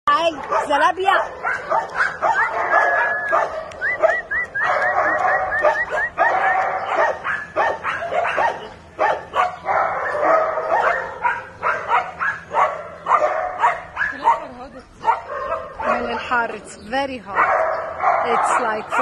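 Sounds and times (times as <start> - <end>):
dogs barking and yipping: 0.1 - 19.0.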